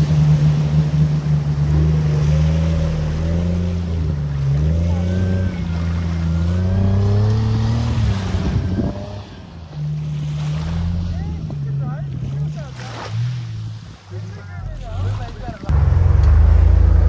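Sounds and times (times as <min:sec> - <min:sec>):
car engine pulling hard: 0:00.0 - 0:13.8, 0:14.5 - 0:17.0
water splashing: 0:00.0 - 0:17.0.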